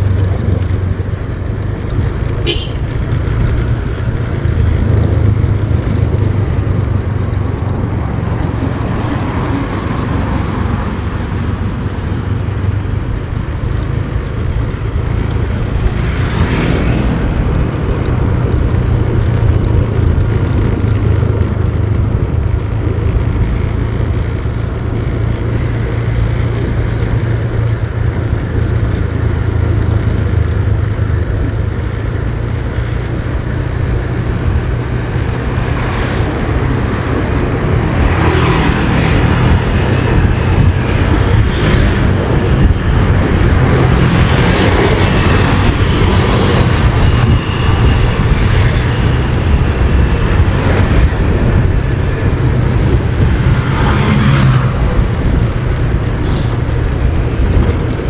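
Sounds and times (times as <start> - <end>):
motorbike engine running: 0.0 - 58.0
wind buffeting microphone: 0.0 - 58.0.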